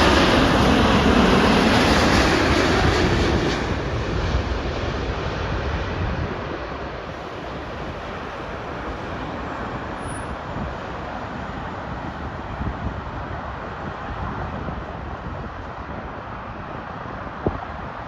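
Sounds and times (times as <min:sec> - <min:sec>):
jet engines roaring: 0:00.0 - 0:17.8
wind rumbling on microphone: 0:00.0 - 0:18.0.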